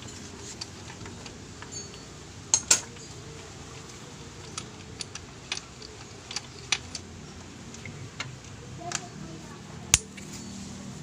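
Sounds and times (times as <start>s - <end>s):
metal tools clinking on engine: 0.0s - 9.0s.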